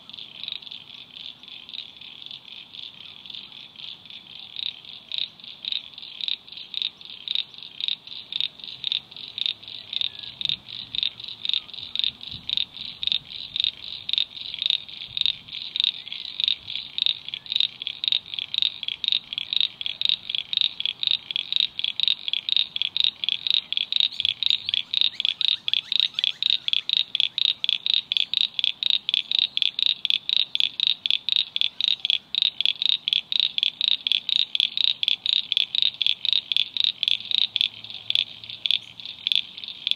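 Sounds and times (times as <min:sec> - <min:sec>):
frog calling: 0:00.0 - 0:39.9.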